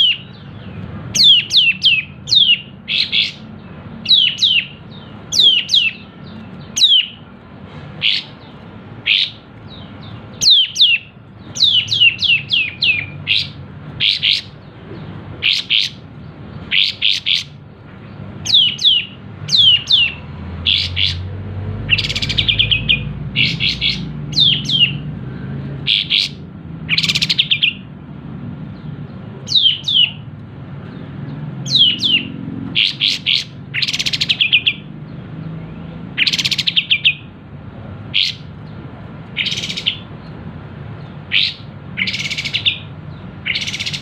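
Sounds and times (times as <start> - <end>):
bird trilling: 0.0 - 25.2, 25.8 - 27.9, 29.4 - 30.3, 31.6 - 34.9, 36.1 - 37.4, 38.0 - 40.4, 41.0 - 44.0
bird chirping: 0.0 - 44.0.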